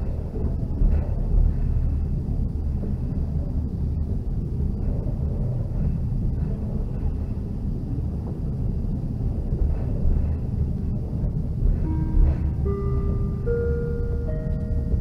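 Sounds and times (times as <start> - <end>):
train rumbling into station: 0.0 - 15.0.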